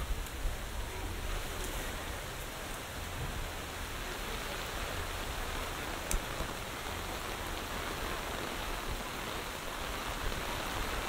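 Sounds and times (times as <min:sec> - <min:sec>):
rain on foliage: 0:00.0 - 0:11.0.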